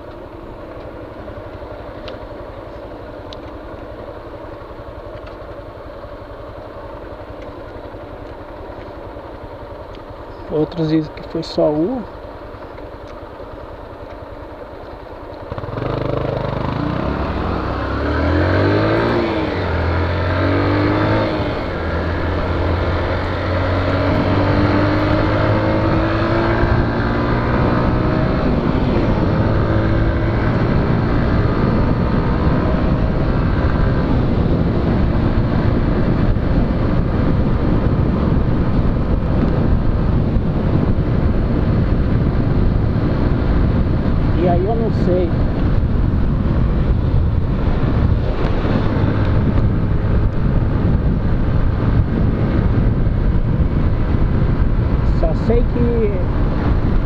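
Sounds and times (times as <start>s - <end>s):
road and wind noise: 0.0s - 57.0s
motorcycle engine revving: 1.2s - 57.0s.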